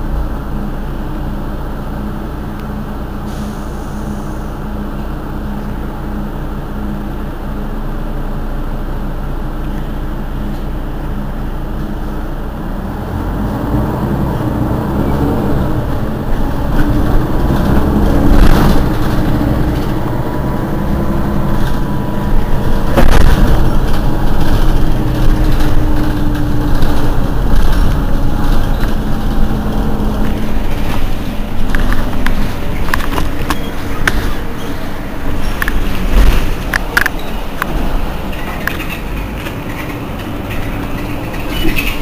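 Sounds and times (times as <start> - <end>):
bus diesel engine idling: 0.0 - 13.2, 14.0 - 42.0.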